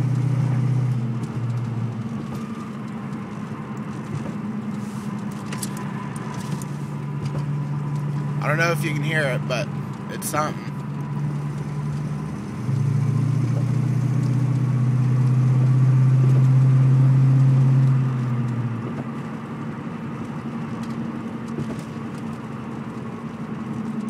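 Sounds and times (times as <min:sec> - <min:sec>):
low droning hum from car: 0:00.0 - 0:24.0.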